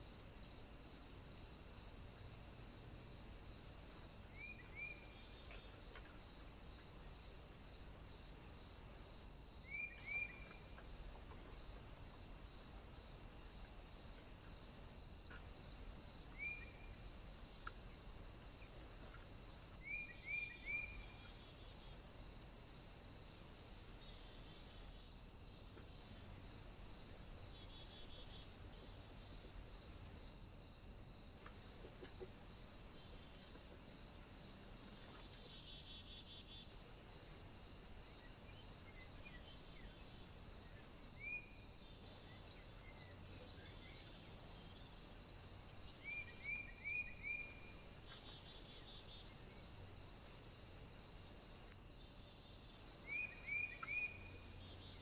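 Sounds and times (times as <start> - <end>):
faint high hiss: 0.0 - 55.0.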